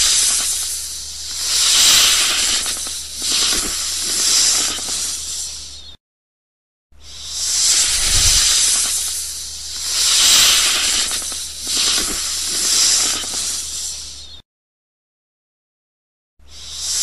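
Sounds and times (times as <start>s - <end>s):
snake hissing: 0.0s - 6.0s, 7.0s - 14.4s, 16.4s - 17.0s.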